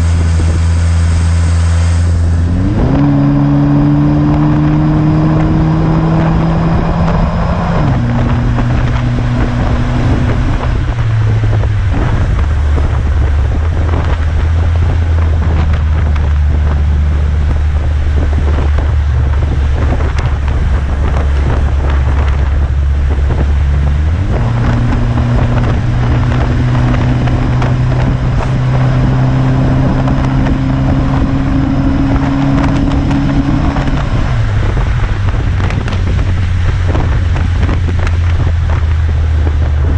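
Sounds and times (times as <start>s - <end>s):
car exhaust note: 0.0s - 39.9s
wind noise on microphone: 0.0s - 39.9s.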